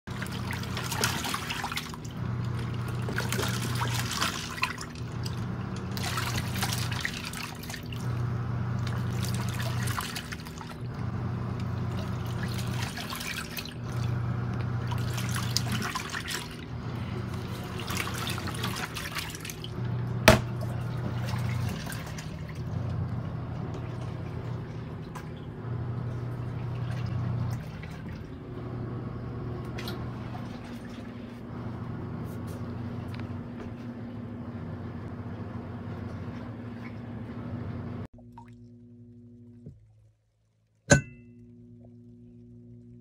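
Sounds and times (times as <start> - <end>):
washing machine motor hum: 0.0 - 43.0
water and clothes sloshing: 0.1 - 37.5.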